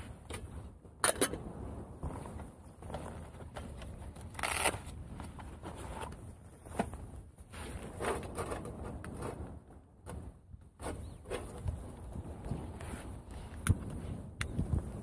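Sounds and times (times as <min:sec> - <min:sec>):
camp gear rustling and crinkling: 0:00.0 - 0:15.0
low wind rumble on microphone: 0:00.0 - 0:15.0.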